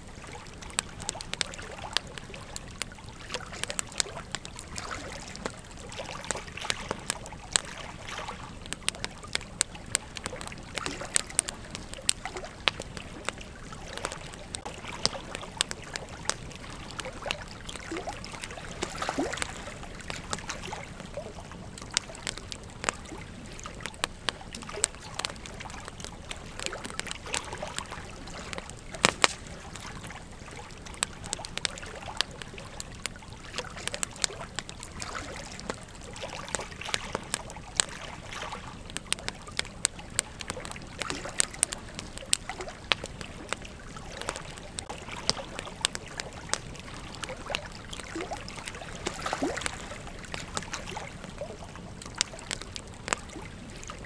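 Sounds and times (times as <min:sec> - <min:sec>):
campfire crackles and pops: 0:00.0 - 0:54.0.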